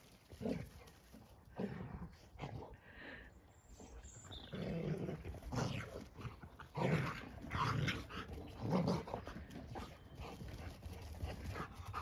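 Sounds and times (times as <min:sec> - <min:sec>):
dogs play growling: 0:00.0 - 0:02.9, 0:04.3 - 0:12.0.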